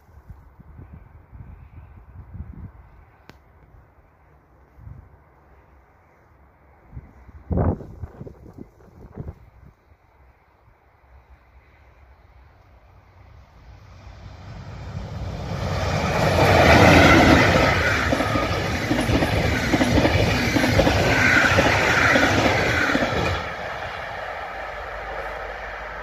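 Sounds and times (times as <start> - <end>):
passenger train passing: 5.1 - 26.0.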